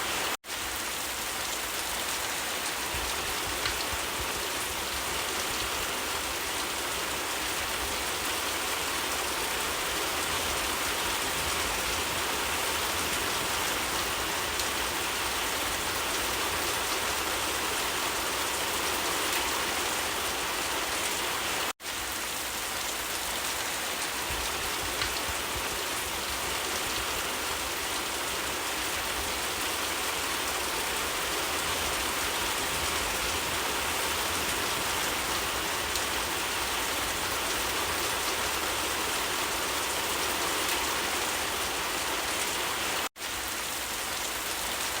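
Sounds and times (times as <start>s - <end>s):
rain falling on leaves: 0.0s - 45.0s.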